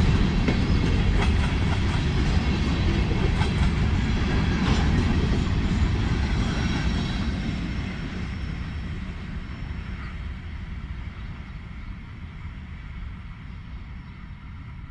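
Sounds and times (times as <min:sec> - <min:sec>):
freight train rumbling: 0:00.0 - 0:14.9.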